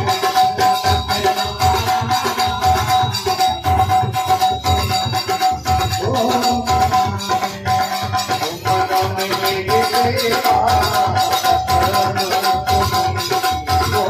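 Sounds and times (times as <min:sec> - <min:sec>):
rattling hand percussion: 0:00.0 - 0:14.0
steady drum beat: 0:00.0 - 0:14.0.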